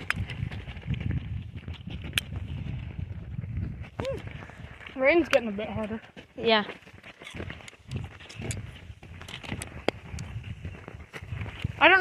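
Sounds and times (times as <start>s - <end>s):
footsteps on wet trail: 0.0s - 12.0s.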